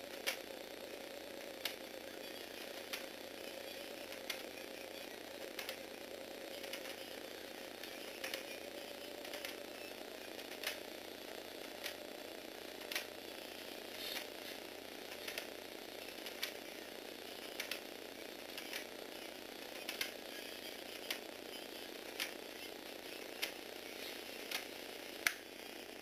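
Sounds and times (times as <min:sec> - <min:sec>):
electric motor and gears whirring: 0:00.0 - 0:26.0.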